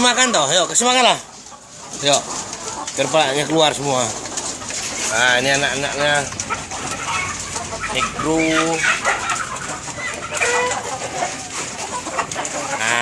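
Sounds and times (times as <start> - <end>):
young chickens clucking: 0.0 - 13.0.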